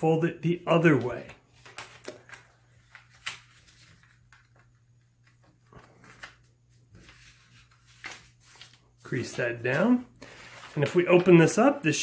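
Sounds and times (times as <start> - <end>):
paper rustling: 0.8 - 11.8
paper being folded and creased: 0.9 - 11.5.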